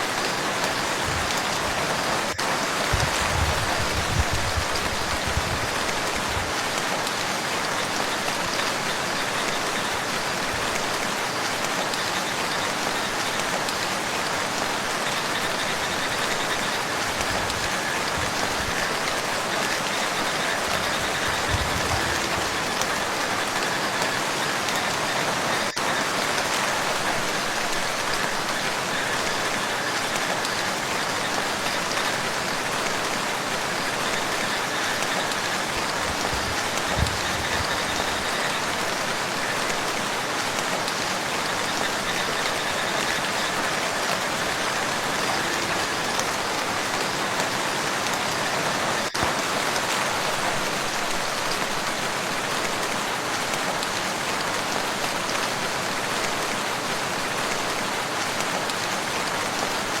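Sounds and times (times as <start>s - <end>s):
rain falling on a lake: 0.0s - 60.0s.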